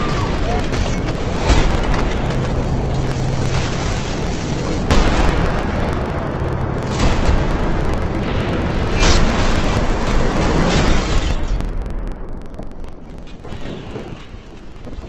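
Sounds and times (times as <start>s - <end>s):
heavy booming hits: 0.0s - 12.3s
continuous rushing noise: 0.0s - 15.0s.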